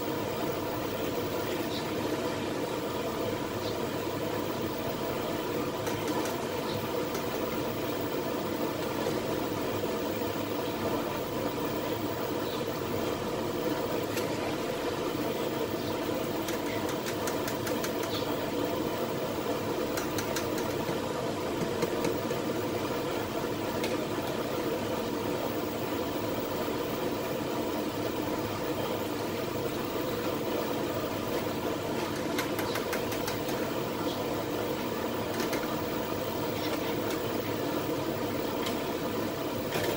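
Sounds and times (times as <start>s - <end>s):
double boiler rumbling hum: 0.0s - 39.9s.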